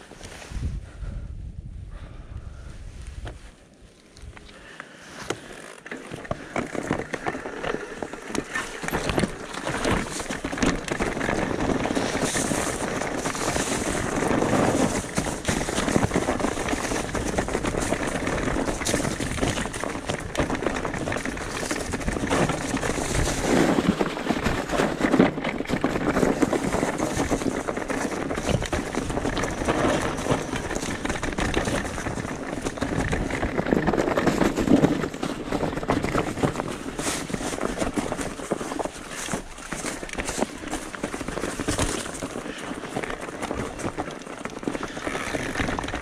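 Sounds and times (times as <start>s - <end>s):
bike rattling over bumps: 4.6s - 46.0s
tyres rolling over gravel: 5.1s - 46.0s.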